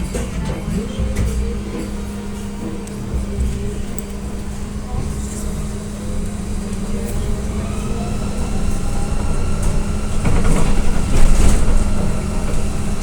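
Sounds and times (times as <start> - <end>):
faint traction drive whine: 0.0 - 13.0
trolleybus electric hum: 0.0 - 13.0.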